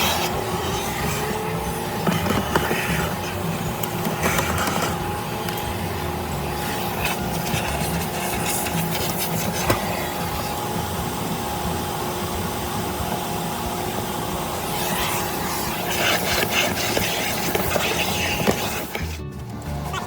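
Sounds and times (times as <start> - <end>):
machine whirring hum: 0.0 - 20.0.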